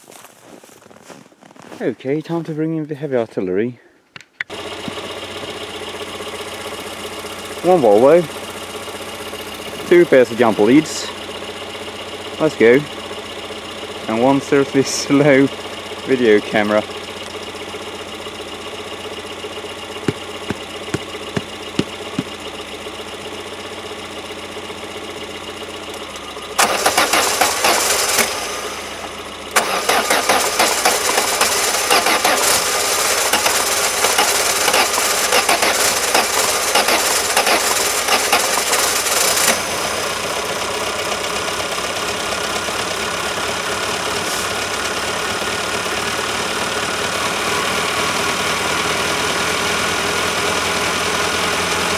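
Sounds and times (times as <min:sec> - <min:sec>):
car engine cranking and starting: 0:04.5 - 0:51.9
car engine idling: 0:04.5 - 0:51.9.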